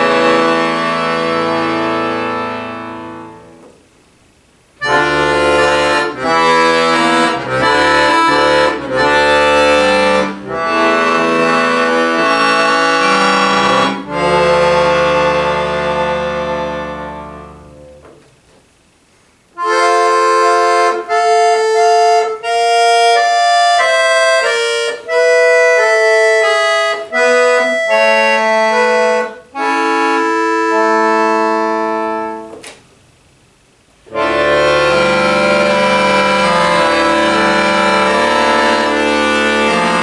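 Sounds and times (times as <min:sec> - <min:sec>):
piano accordion chords: 0:00.0 - 0:03.8, 0:04.8 - 0:18.2, 0:19.5 - 0:32.7, 0:34.0 - 0:40.0.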